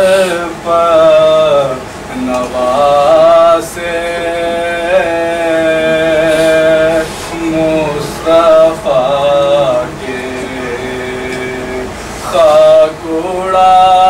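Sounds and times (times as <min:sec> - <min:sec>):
man chanting a lament: 0:00.0 - 0:14.0.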